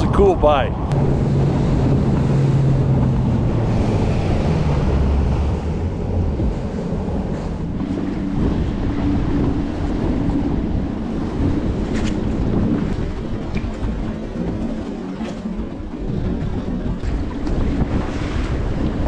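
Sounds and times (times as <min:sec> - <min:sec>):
outboard motor running: 0:00.0 - 0:19.0
water washing against hull: 0:00.0 - 0:19.0
wind buffeting microphone: 0:00.0 - 0:19.0.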